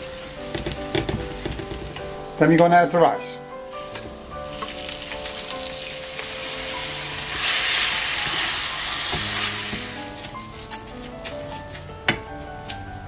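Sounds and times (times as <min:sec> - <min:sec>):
rice sizzling in a pan: 0:00.0 - 0:13.0
wooden spoon stirring: 0:00.4 - 0:02.8, 0:03.7 - 0:13.0.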